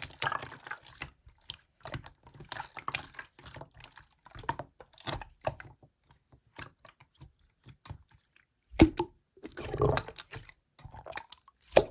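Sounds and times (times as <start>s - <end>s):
wet squelch of slime: 0.0s - 11.9s.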